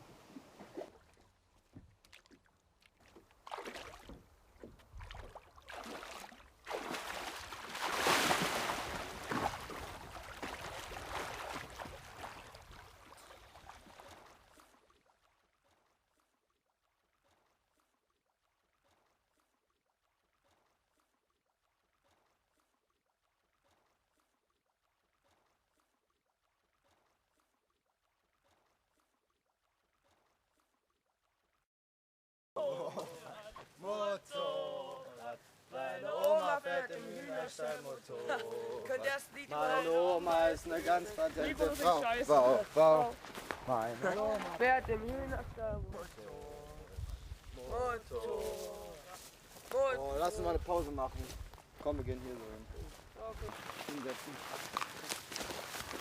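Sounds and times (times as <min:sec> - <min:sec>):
water splashing: 0:00.0 - 0:31.6, 0:32.8 - 0:51.1.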